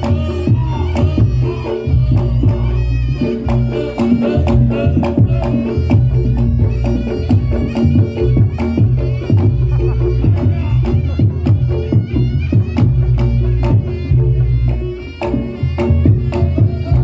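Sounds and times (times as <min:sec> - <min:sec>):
drums pounding fast beat: 0:00.0 - 0:17.0
reedy wind instrument melody: 0:00.0 - 0:17.0.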